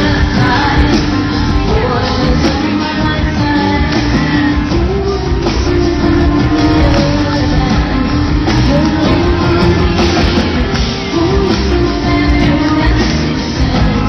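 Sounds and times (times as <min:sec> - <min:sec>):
live rock band: 0:00.0 - 0:14.0
person singing: 0:00.0 - 0:14.0.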